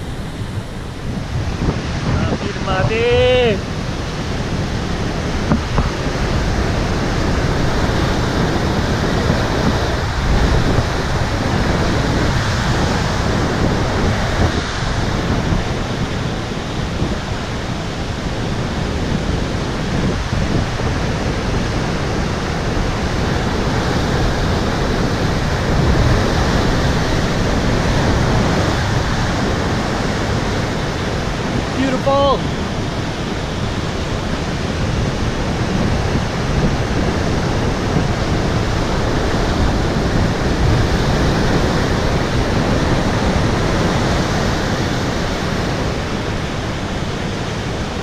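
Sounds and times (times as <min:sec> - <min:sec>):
surf breaking over rocks: 0:00.0 - 0:48.0.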